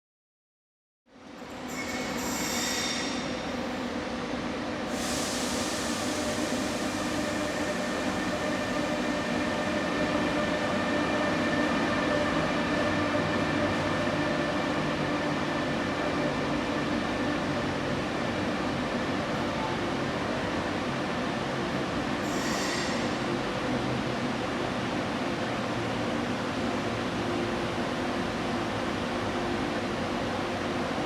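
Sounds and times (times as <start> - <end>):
high-speed train rumble: 2.9 - 31.0.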